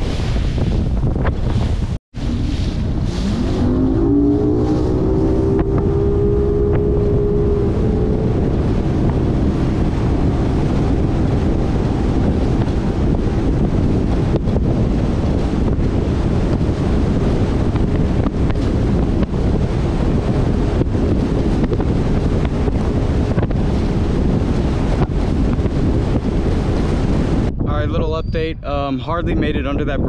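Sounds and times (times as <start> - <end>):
wind buffeting the microphone: 0.0 - 30.0
outboard motor accelerating: 2.1 - 27.6.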